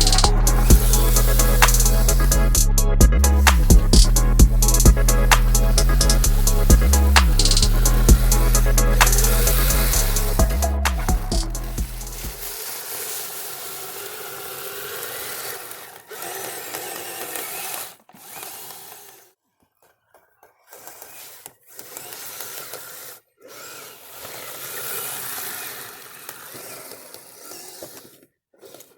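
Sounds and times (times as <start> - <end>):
electric motor and gears whining: 0.0 - 19.4, 20.6 - 28.9.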